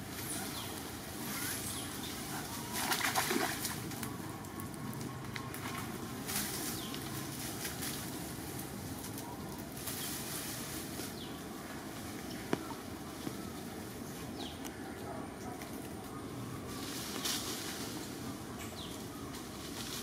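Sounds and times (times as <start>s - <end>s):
birds calling: 0.0s - 10.2s, 10.8s - 20.0s
steady background hiss: 0.0s - 20.0s.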